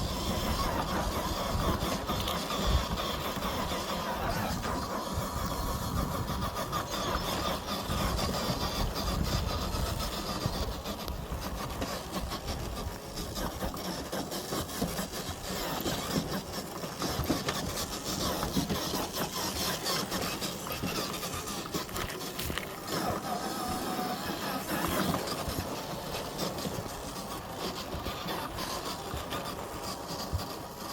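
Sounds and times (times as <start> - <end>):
toy truck motor whirring: 0.0 - 30.9
twigs crackling under tyres: 0.8 - 30.9.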